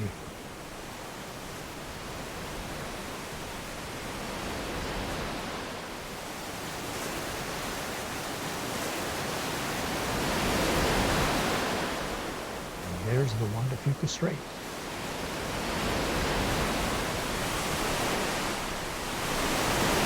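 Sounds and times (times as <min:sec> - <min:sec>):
ocean waves washing against rocks: 0:00.0 - 0:20.0.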